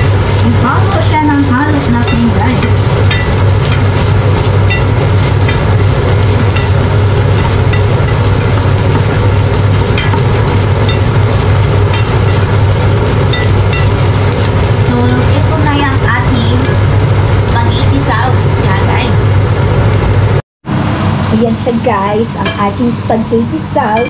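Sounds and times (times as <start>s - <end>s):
meat frying in a pan: 0.0s - 20.4s
loud mechanical hum: 0.0s - 24.0s.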